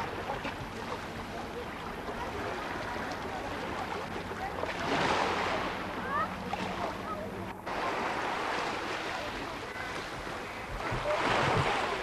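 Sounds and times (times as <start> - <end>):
faint distant voices: 0.0 - 12.0
sea and wind noise: 0.0 - 12.0.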